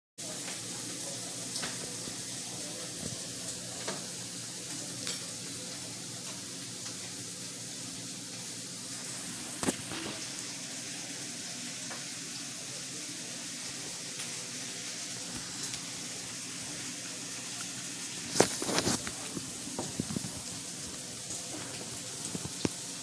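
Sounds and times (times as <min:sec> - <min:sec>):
food sizzling in a pan: 0:00.2 - 0:23.0.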